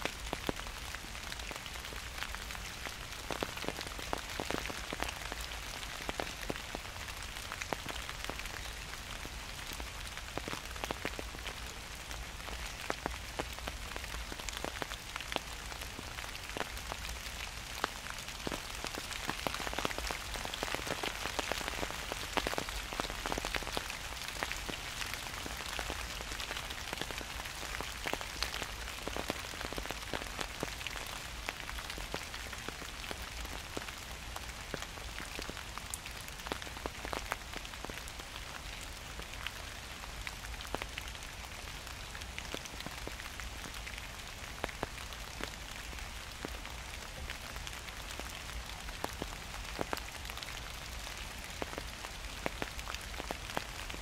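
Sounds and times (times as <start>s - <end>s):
raindrops ticking: 0.0s - 38.2s, 42.0s - 54.0s
rain hiss: 0.0s - 54.0s.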